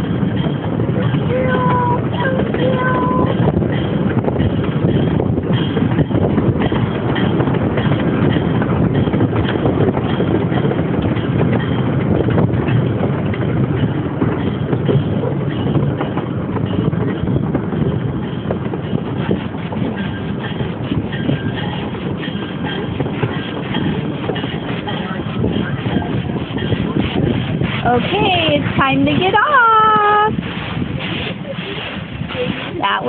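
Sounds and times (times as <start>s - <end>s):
small train rumbling on track: 0.0s - 33.0s
wheels clattering: 0.0s - 33.0s
wind on microphone: 0.0s - 33.0s.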